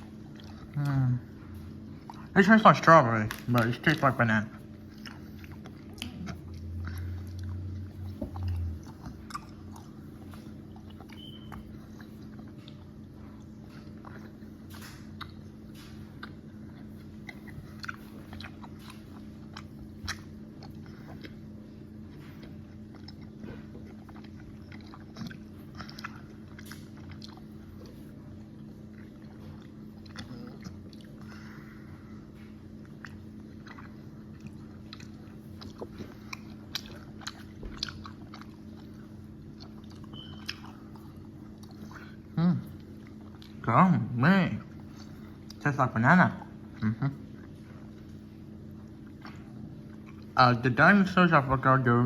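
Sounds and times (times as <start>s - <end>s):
gummy candy chewing: 0.0s - 51.8s
steady low hum: 0.0s - 52.0s.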